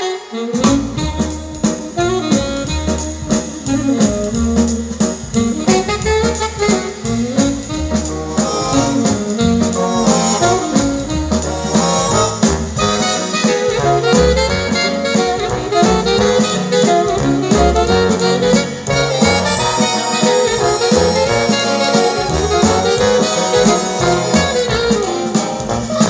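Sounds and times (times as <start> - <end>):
music with repeating bass line: 2.3 - 26.0.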